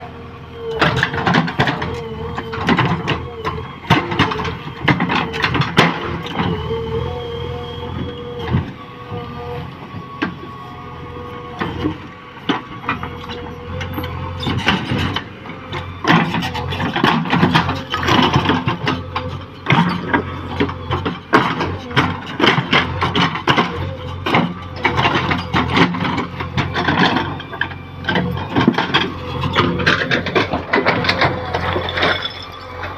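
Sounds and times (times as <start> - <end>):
backhoe engine under load: 0.0 - 32.9.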